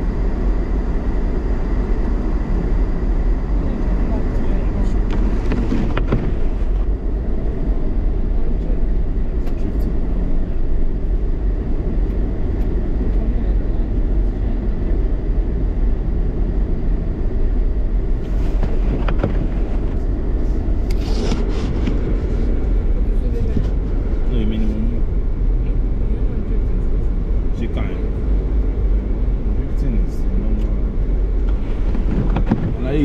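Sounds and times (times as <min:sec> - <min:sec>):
car cabin road and engine rumble: 0:00.0 - 0:33.0.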